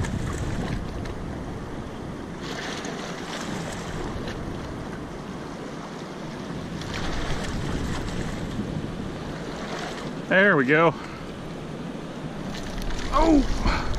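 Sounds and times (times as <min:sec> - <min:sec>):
river water rushing: 0:00.0 - 0:13.9
wind buffeting microphone: 0:00.0 - 0:13.9.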